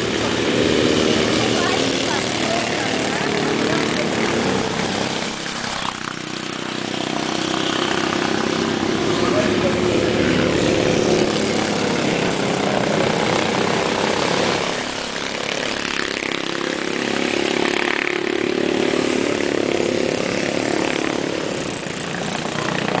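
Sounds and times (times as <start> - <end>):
go-kart engine running: 0.0 - 23.0.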